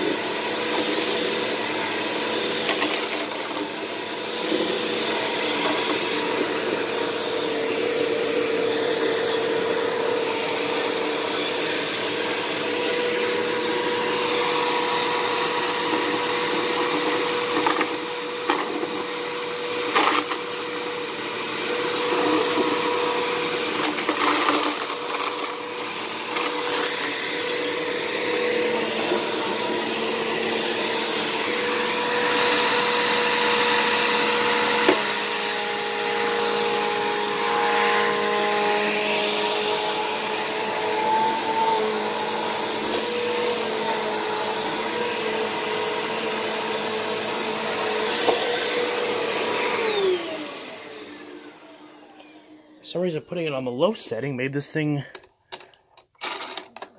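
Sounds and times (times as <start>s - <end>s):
vacuum cleaner running on carpet: 0.0s - 53.1s.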